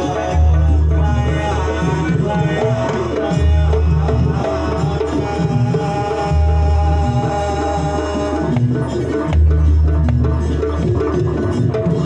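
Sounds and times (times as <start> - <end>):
hand drums beating: 0.0 - 12.0
metallic pitched percussion: 0.0 - 12.0.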